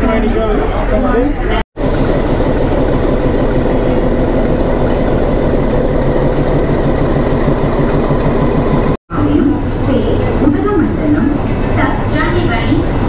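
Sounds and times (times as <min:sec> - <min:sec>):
heavy locomotive engine drone: 0:01.5 - 0:13.0
thin steady whine: 0:01.8 - 0:12.9.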